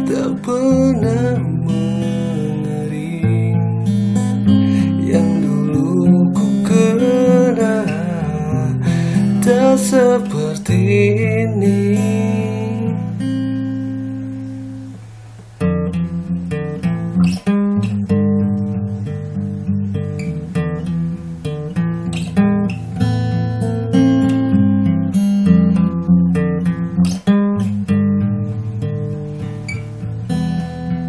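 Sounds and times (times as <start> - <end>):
acoustic guitar strumming chords: 0.0 - 31.0.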